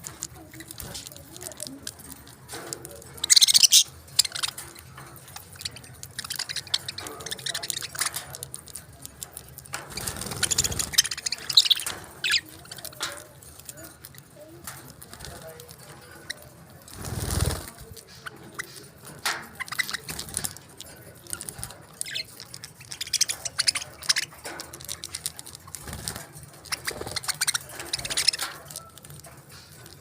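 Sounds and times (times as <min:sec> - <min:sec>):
parrots chirping: 0:02.3 - 0:30.0.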